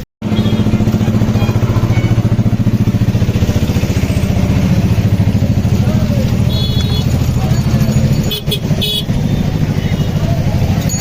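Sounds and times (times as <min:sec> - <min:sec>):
small engine throbbing: 0:00.2 - 0:11.0.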